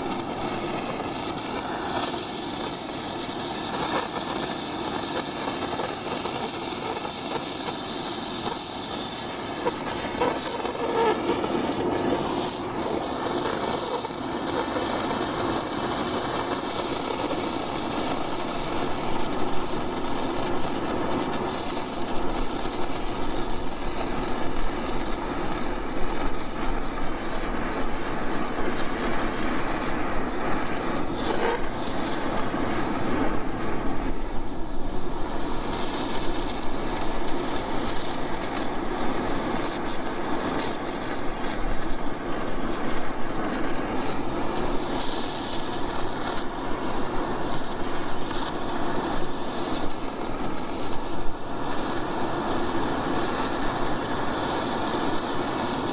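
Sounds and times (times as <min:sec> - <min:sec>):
torch flame hissing: 0:00.0 - 0:55.9.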